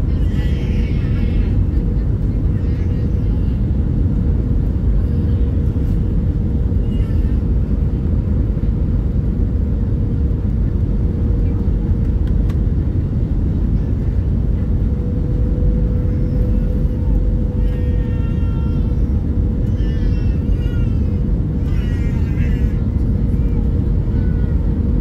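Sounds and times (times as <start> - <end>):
constant cabin hum: 0.0 - 25.0
jet engines roaring: 0.0 - 25.0.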